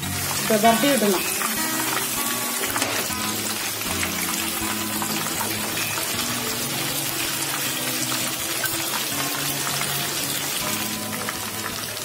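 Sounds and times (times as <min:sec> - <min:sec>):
deep-frying sizzle and crackle: 0:00.0 - 0:12.0
low background music: 0:00.0 - 0:12.0.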